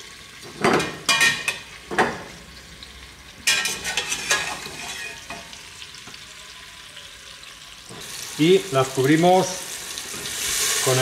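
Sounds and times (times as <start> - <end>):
leek sizzling in oil: 0.0 - 11.0.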